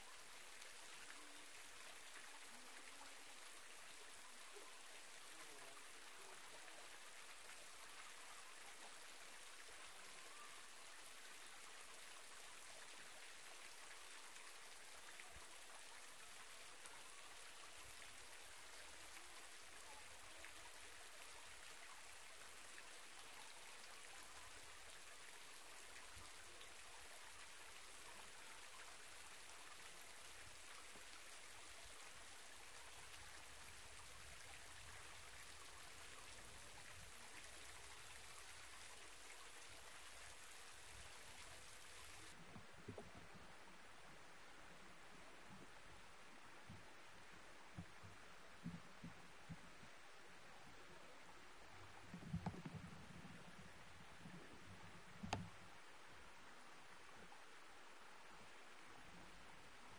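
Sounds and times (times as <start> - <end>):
waterfall trickling into pool: 0.0 - 59.9.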